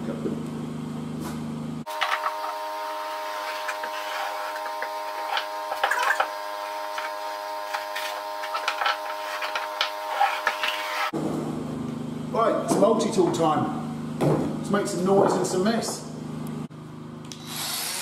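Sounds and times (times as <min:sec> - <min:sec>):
generator whine: 0:00.0 - 0:18.0.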